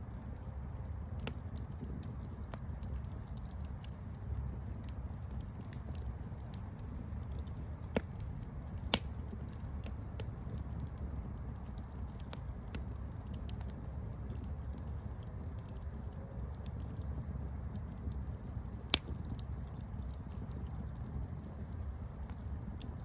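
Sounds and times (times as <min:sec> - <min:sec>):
campfire flame rushing: 0:00.0 - 0:23.0
fire crackling and popping: 0:00.0 - 0:23.0.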